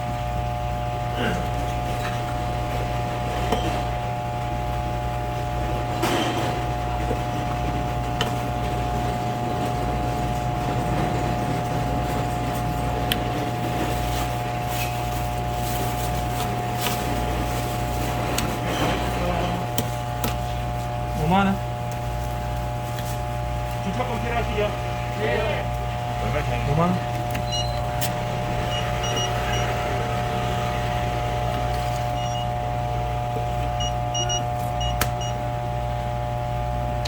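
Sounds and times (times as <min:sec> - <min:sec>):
machine hum: 0:00.0 - 0:37.0.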